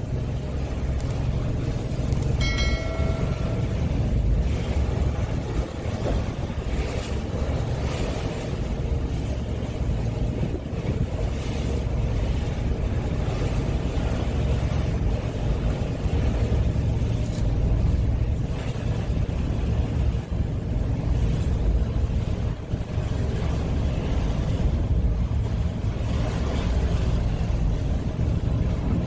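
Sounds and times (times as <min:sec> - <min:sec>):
low rumble of ship and sea: 0:00.0 - 0:29.0
wind buffeting microphone: 0:00.0 - 0:29.0.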